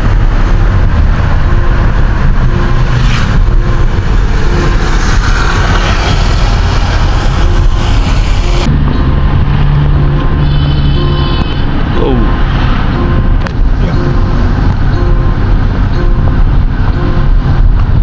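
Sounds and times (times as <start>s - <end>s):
car road noise inside cabin: 0.0s - 18.0s.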